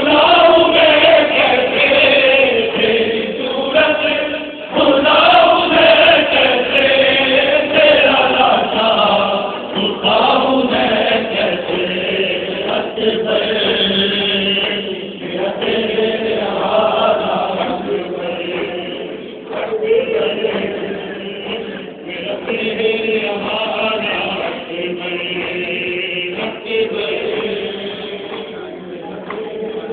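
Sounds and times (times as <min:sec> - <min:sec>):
crowd chanting: 0:00.0 - 0:29.9.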